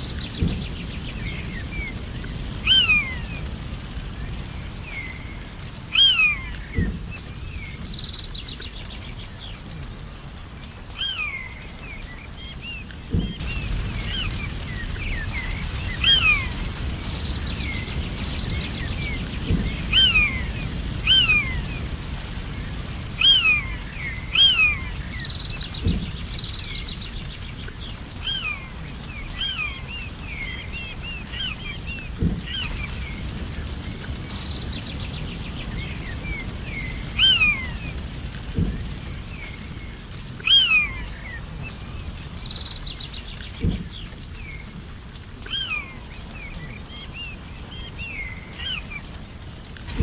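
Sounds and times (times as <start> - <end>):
low outdoor noise: 0.0 - 50.0
songbirds chirping: 0.0 - 50.0.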